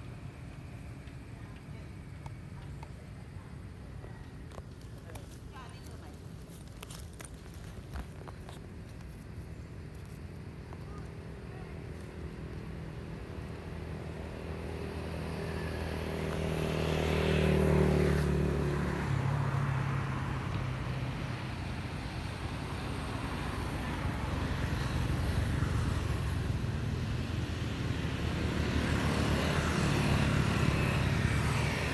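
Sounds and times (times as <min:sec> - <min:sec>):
engine running: 0:00.0 - 0:31.9.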